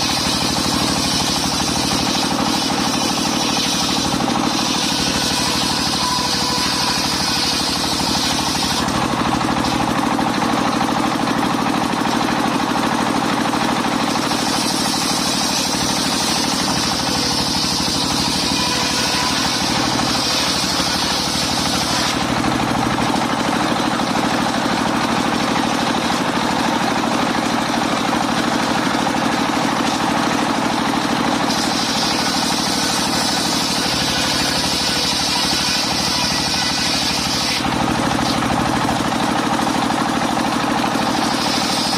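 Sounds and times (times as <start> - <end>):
sawmill engine running: 0.0 - 41.9.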